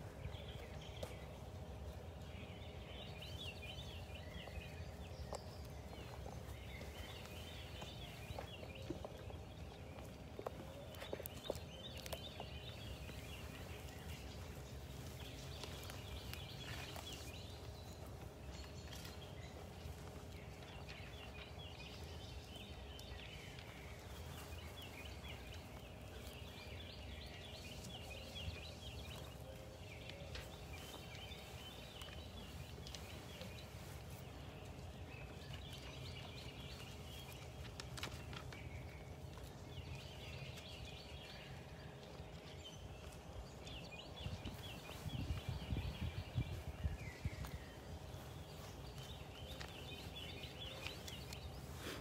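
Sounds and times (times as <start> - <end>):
birds chirping: 0.0 - 52.0
low steady hum: 0.0 - 52.0.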